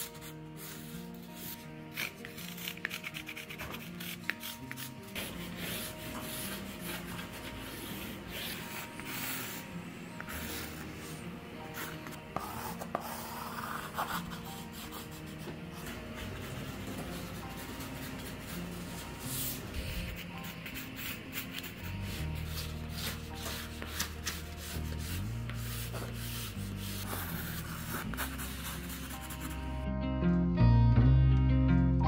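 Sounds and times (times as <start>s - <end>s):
pencil scratching on cardboard: 0.0s - 9.7s, 10.3s - 29.8s
background music: 0.0s - 32.0s.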